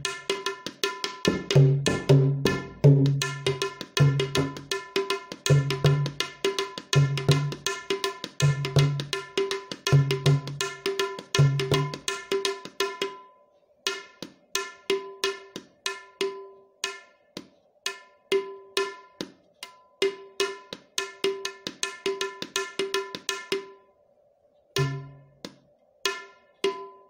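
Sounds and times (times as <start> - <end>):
ringing tabla strokes: 0.0 - 23.9, 24.8 - 27.0.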